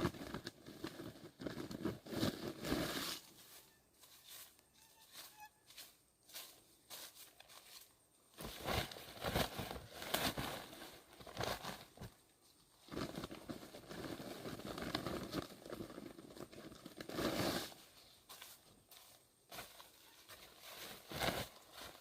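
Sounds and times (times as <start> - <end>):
crinkling rustling handling noise: 0.0 - 4.7, 6.3 - 22.0.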